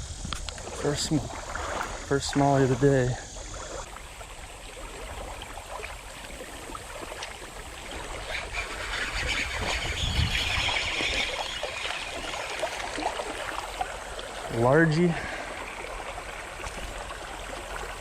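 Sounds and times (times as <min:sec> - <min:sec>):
creek water trickling: 0:00.0 - 0:18.0.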